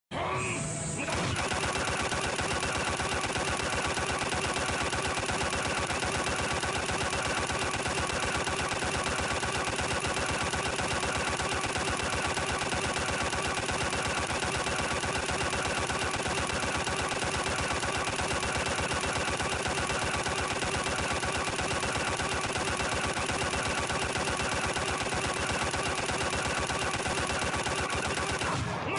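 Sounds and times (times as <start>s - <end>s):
rapid punch impacts: 1.2s - 28.6s.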